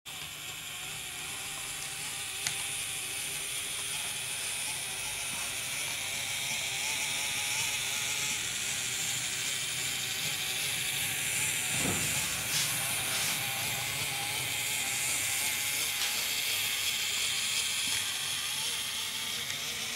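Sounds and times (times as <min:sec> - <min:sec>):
model locomotive motor whir: 0:00.1 - 0:19.9.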